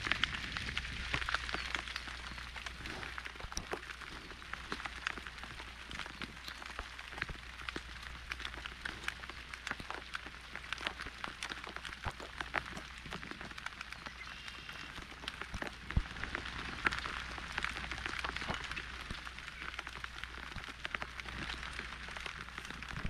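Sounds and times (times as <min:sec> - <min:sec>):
raindrops clicking close by: 0:00.0 - 0:23.0
steady rain: 0:00.0 - 0:23.0.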